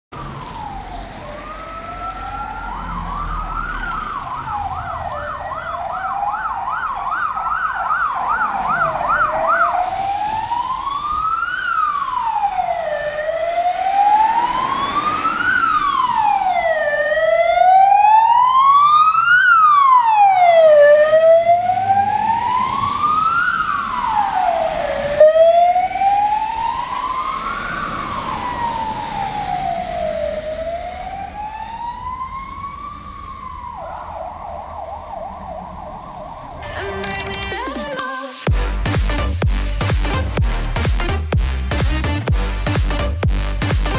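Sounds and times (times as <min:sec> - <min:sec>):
wailing siren: 0:00.1 - 0:43.9
fast yelping siren: 0:00.2 - 0:36.7.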